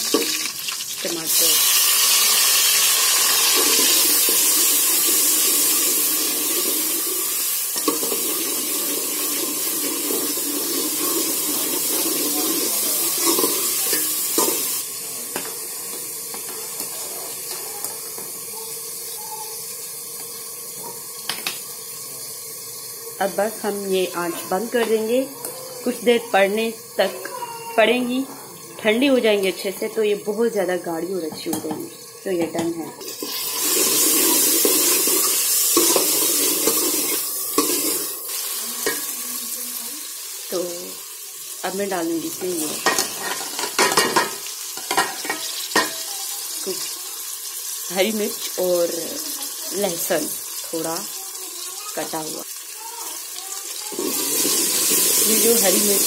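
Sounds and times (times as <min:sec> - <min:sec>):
onion sizzling in hot oil: 0:00.0 - 0:56.0
stove and simmering pot hiss: 0:00.0 - 0:56.0.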